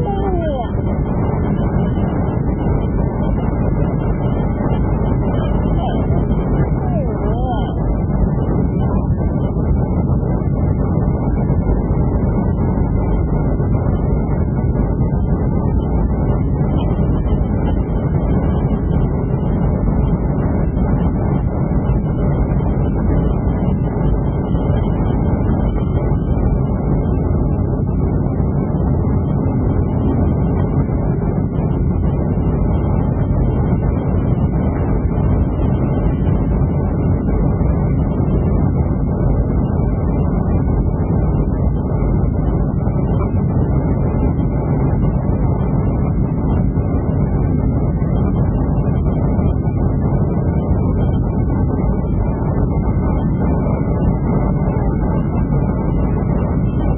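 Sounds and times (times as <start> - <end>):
air rushing along fuselage: 0.0 - 56.9
airliner cabin engine rumble: 0.0 - 56.9.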